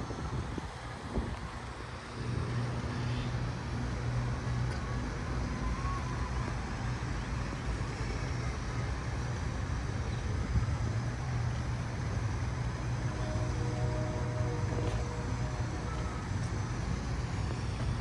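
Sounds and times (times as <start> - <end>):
engine humming: 0.0 - 18.0
street traffic: 0.0 - 18.0.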